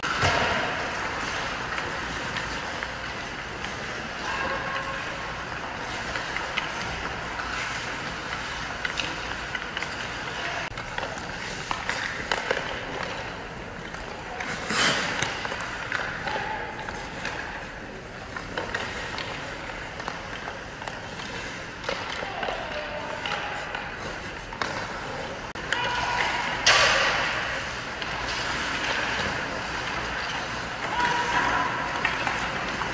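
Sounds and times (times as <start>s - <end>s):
skates scraping on ice: 0.0s - 32.9s
stick and puck clicks: 5.5s - 32.9s.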